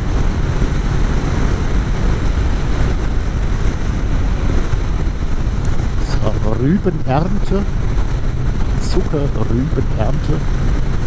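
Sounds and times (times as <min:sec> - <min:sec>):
motorcycle engine cruising: 0:00.0 - 0:11.0
wind rush: 0:00.0 - 0:11.0.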